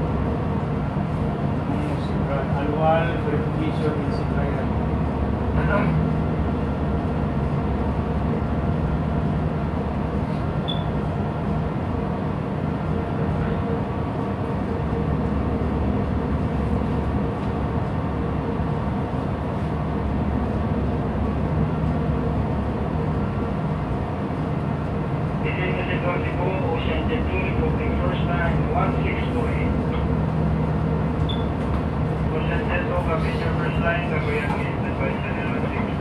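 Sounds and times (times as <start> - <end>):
ship's diesel machinery droning: 0.0 - 36.0.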